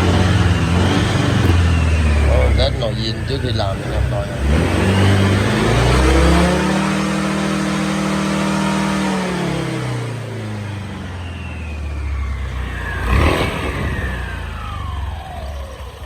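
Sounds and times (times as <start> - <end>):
rising whine: 0.0 - 16.0
scooter engine revving: 0.0 - 16.0.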